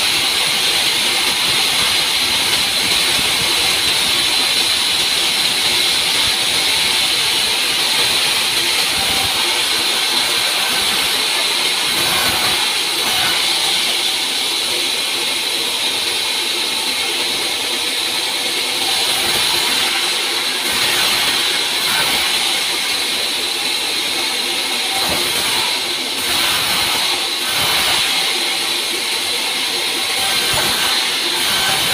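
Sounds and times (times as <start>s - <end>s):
band saw cutting wood: 0.0s - 31.9s.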